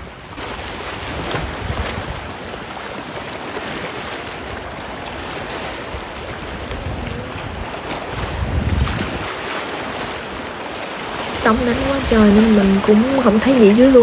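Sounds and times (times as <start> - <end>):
sea waves breaking: 0.0 - 14.0
wind rumbling on microphone: 0.0 - 14.0.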